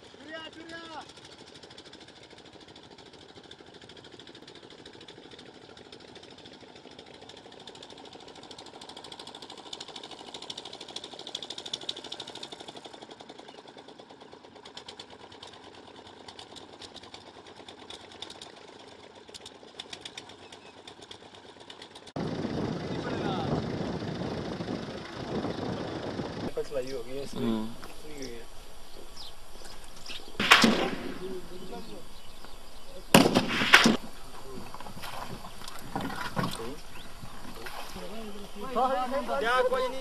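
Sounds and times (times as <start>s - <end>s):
boat engine knocking: 0.0s - 30.4s, 33.9s - 40.0s.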